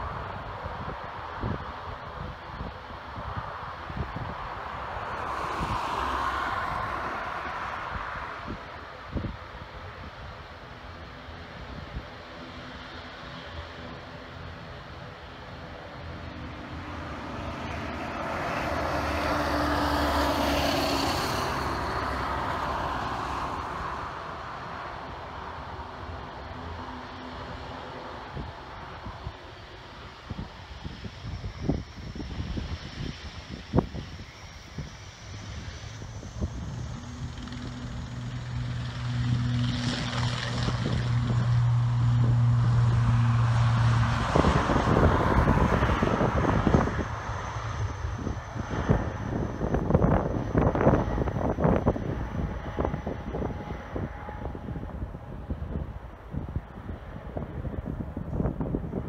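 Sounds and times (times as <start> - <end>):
propeller hum: 0.0 - 59.0
turboprop engines running: 7.0 - 59.0.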